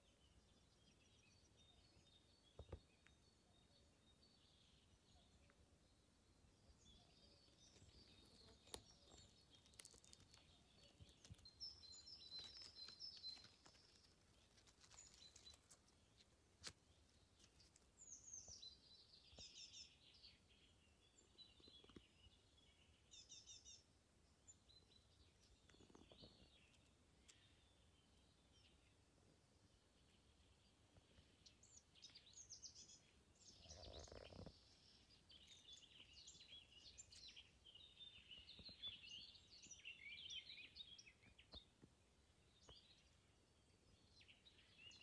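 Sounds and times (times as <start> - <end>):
small birds chirping and trilling: 0.0 - 45.0.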